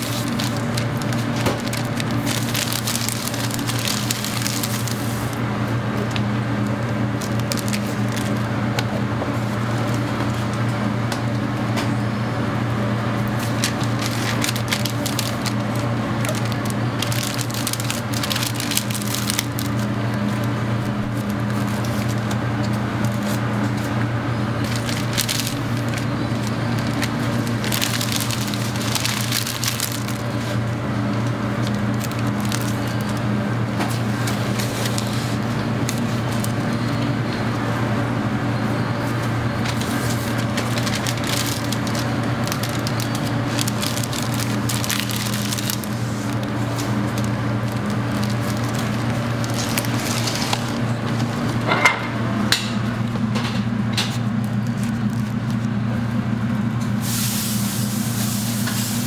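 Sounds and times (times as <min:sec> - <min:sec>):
paper wrappers crinkling: 0:00.0 - 0:05.4, 0:06.0 - 0:10.9, 0:13.1 - 0:37.2, 0:39.0 - 0:51.7, 0:53.0 - 0:56.2
low machine hum: 0:00.0 - 0:59.0.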